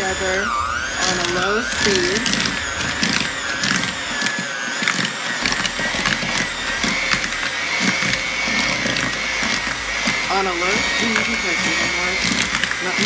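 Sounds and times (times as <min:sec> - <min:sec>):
electric mixer motor whine: 0:00.0 - 0:13.0.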